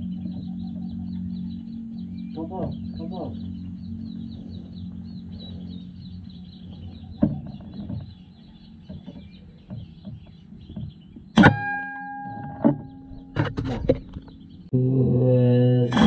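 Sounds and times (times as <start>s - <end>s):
high repeated chirping: 0.0s - 14.7s.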